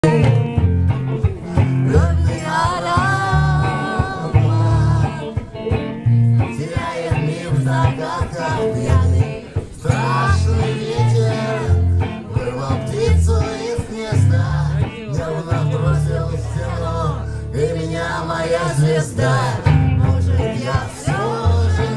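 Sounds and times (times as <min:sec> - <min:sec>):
bass line: 0:00.0 - 0:21.9
guitar: 0:00.0 - 0:21.9
person singing: 0:01.2 - 0:21.9.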